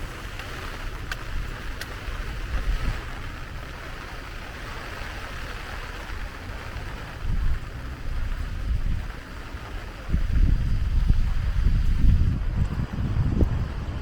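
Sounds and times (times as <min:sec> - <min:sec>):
steady rain falling: 0:00.0 - 0:14.0
wind rumble on microphone: 0:00.0 - 0:14.0.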